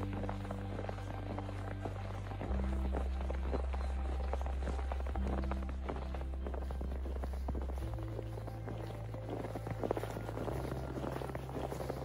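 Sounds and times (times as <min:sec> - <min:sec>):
footsteps crunching in snow: 0:00.0 - 0:12.0
soft ambient music: 0:00.0 - 0:12.0.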